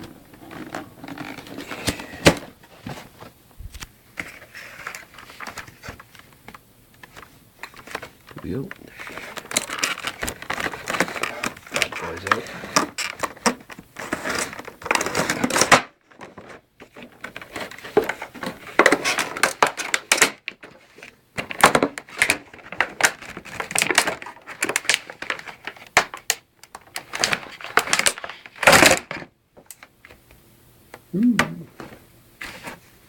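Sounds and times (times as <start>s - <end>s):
packaging rustling and crinkling: 0.0s - 30.2s.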